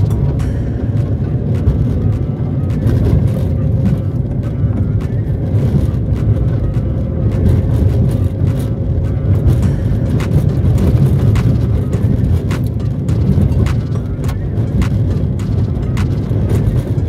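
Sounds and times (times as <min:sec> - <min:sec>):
car driving on dirt road: 0:00.0 - 0:17.0.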